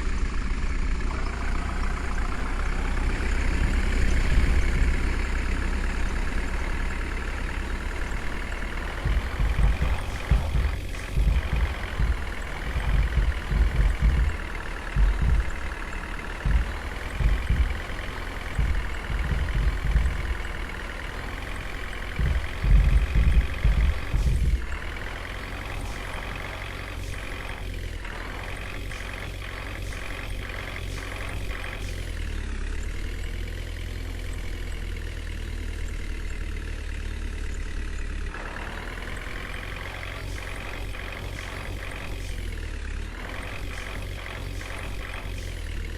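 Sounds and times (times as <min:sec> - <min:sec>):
diesel engine rumbling: 0:00.0 - 0:45.9.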